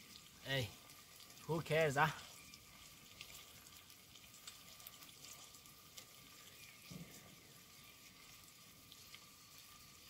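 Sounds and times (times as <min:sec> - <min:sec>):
curry sizzling in a pot: 0:00.0 - 0:10.0.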